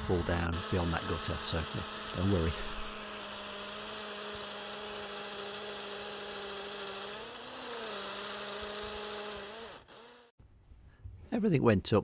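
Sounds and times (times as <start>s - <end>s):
small motor humming: 0.0s - 10.3s.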